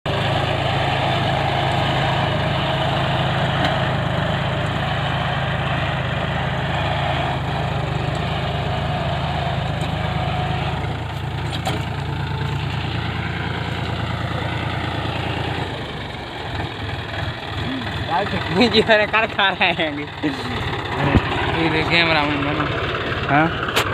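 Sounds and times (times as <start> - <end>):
ploughing machine engine running: 0.1 - 23.9.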